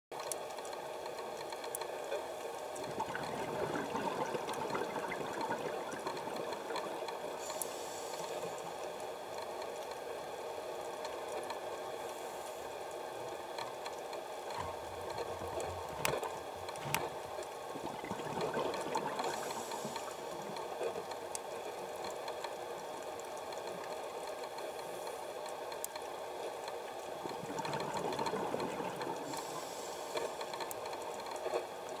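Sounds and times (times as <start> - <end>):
mechanical hum: 0.2 - 32.0.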